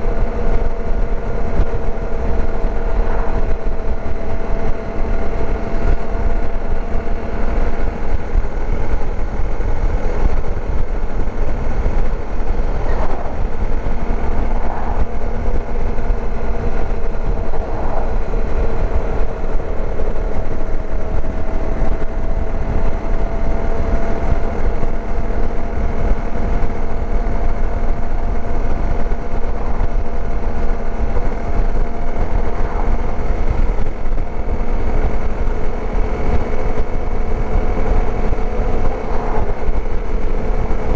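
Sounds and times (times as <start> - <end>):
dirt bike engine cruising: 0.0 - 40.9
wind rumble on microphone: 0.0 - 40.9.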